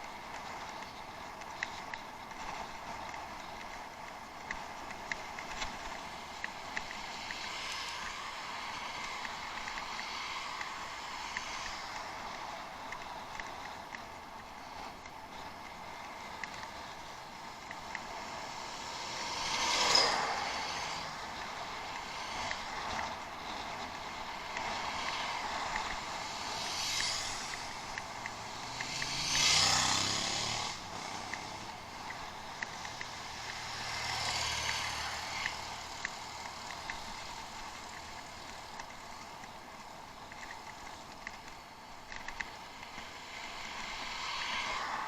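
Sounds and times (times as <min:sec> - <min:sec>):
bicycle tyres rolling: 0:00.0 - 0:45.0
bike clicks and rattles: 0:00.0 - 0:45.0.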